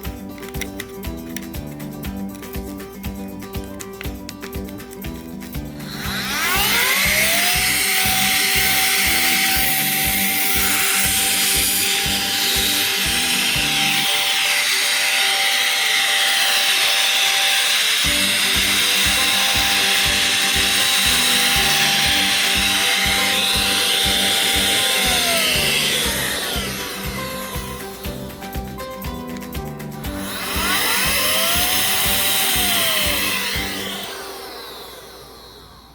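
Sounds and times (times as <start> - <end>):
air duster motor whining: 0.0 - 35.9.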